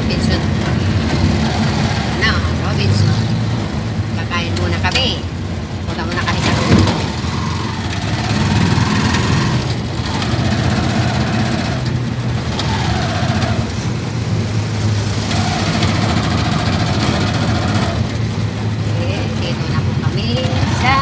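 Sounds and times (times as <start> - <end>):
road noise: 0.0 - 21.0
vehicle engine running: 0.0 - 21.0.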